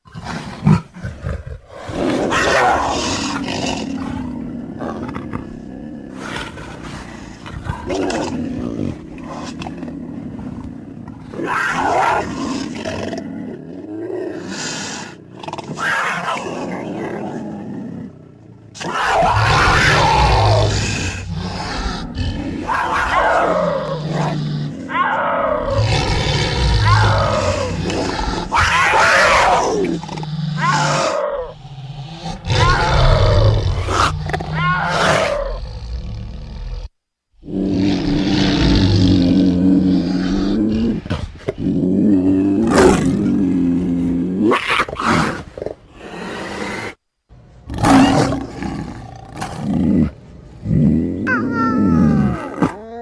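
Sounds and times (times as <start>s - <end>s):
big cat growling and roaring: 0.0s - 47.0s, 47.6s - 53.0s.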